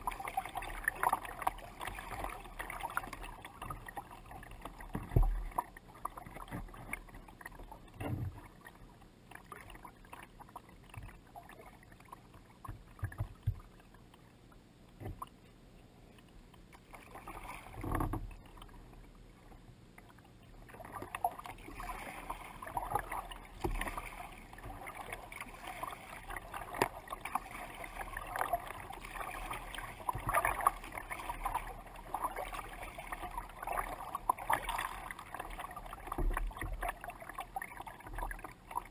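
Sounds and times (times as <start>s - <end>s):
water lapping against a kayak: 0.0s - 38.9s.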